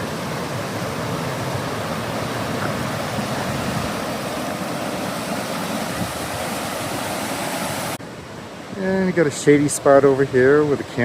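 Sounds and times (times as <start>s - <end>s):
creek rushing and babbling: 0.0s - 11.0s.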